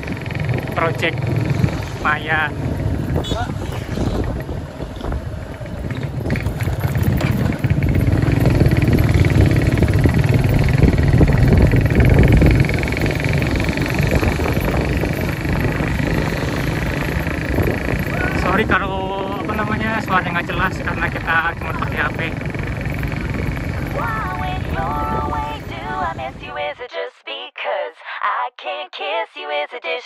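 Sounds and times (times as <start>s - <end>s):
motorcycle engine running: 0.0s - 26.4s
riding wind rushing: 0.0s - 26.7s.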